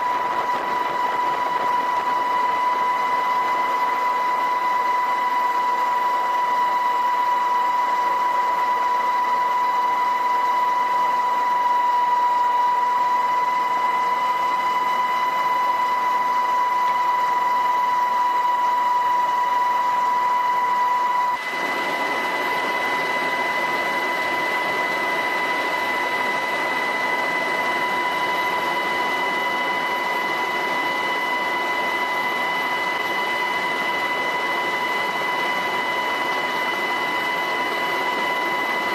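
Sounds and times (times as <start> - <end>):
helicopter engine whine: 0.0 - 38.9.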